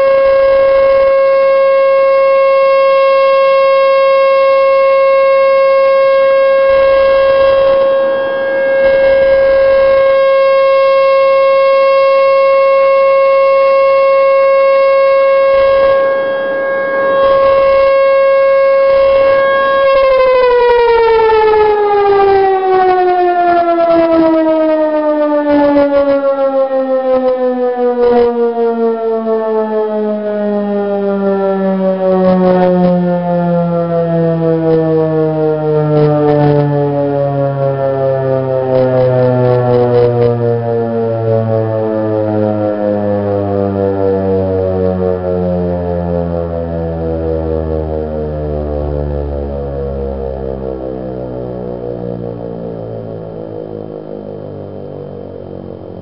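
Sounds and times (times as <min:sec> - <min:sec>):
rotating warning siren steady tone: 0:00.0 - 0:56.0
siren winding down: 0:00.0 - 0:56.0.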